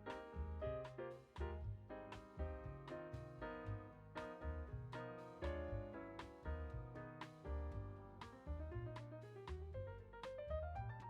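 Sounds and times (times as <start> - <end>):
instrumental music with piano: 0.0 - 11.0.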